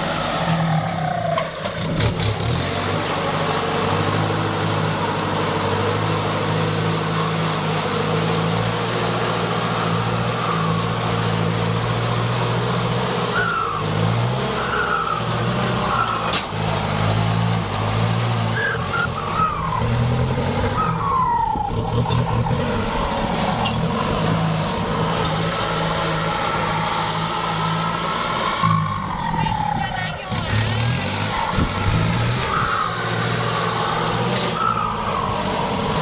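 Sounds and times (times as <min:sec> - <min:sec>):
tractor diesel engine drone: 0:00.0 - 0:36.0.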